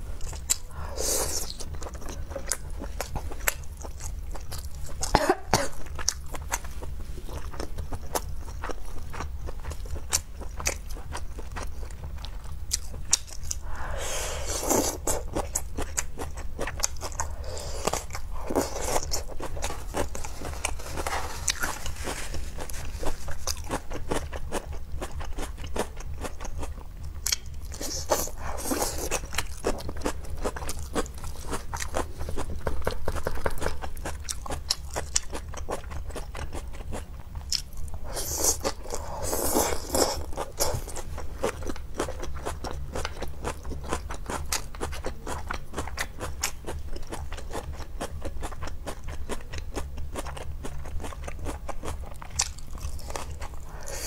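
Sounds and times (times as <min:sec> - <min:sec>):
crunchy chewing of cabbage: 0:00.0 - 0:54.0.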